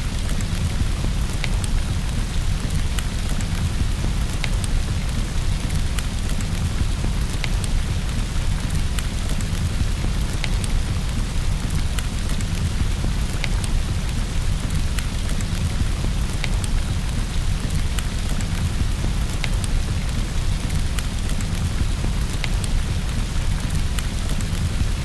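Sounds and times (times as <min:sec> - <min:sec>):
rain on a window: 0:00.0 - 0:25.0
wood fire pops and crackles: 0:00.3 - 0:25.0.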